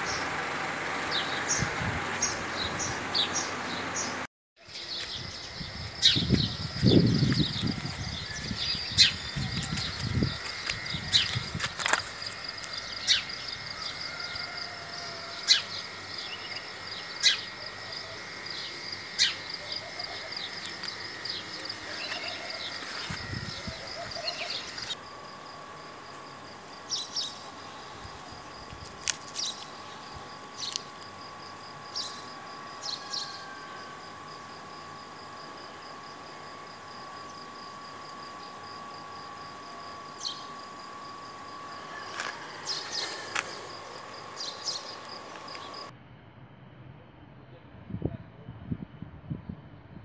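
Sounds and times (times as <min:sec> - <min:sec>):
crickets chirping: 0:00.0 - 0:45.9
faint steady hum: 0:00.0 - 0:50.0.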